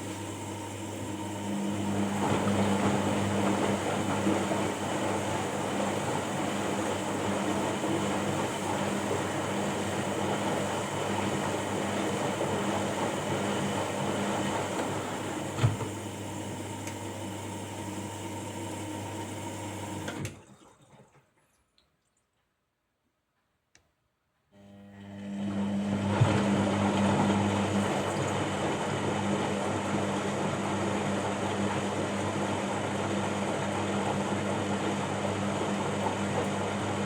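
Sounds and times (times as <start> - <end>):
washing machine running: 0.0 - 21.0, 24.6 - 37.0.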